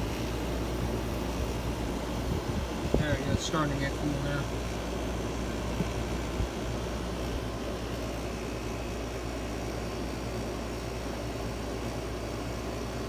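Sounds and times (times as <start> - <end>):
window air conditioner running: 0.0 - 13.0.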